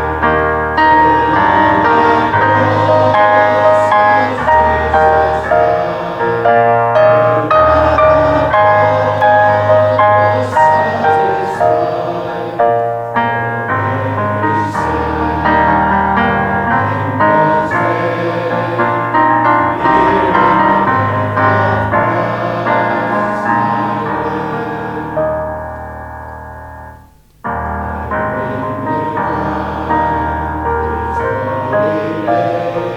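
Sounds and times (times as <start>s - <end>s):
slow piano music: 0.0s - 32.9s.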